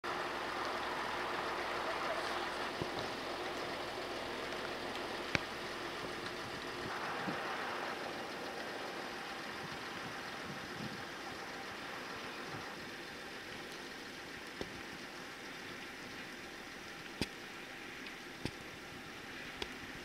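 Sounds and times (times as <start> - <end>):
machinery hum: 0.0 - 20.0
water pouring into harbour: 0.0 - 20.0.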